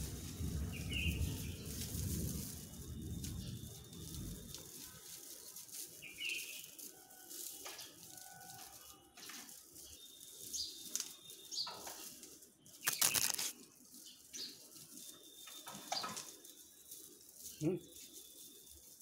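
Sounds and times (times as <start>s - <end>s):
dry wheat stalks rustling: 0.0s - 19.0s.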